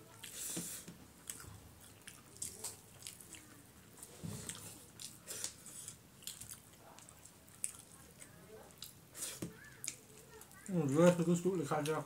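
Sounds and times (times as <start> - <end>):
fingers squishing food on plate: 0.0 - 11.2.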